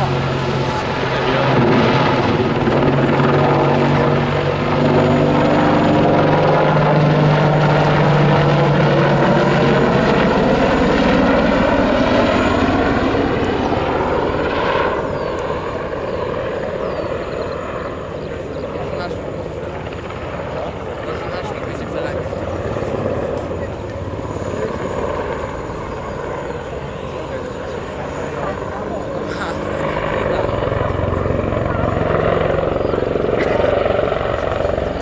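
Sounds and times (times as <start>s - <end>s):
helicopter passing overhead: 0.0s - 35.0s.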